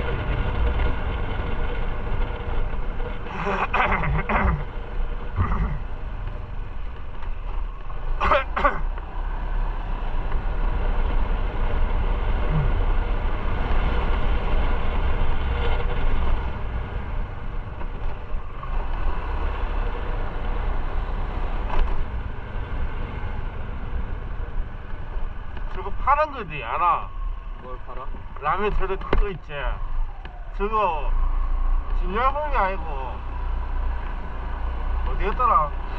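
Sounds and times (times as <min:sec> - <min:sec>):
road and wind noise: 0:00.0 - 0:35.9.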